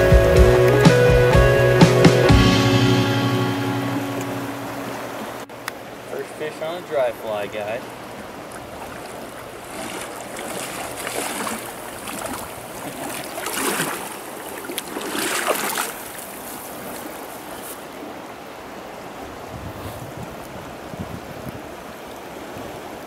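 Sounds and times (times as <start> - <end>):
river water rushing: 0.0 - 23.0
water splashing: 0.0 - 23.0.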